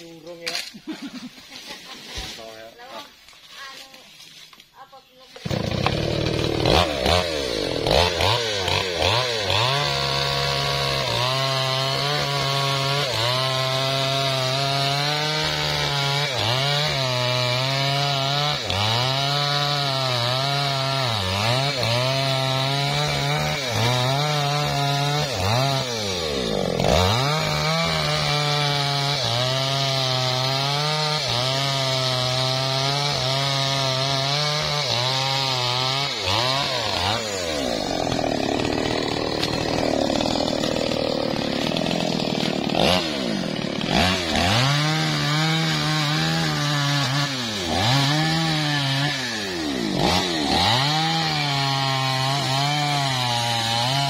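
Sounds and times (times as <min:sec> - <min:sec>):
chainsaw cutting wood: 0:00.0 - 0:01.3, 0:05.2 - 0:54.0.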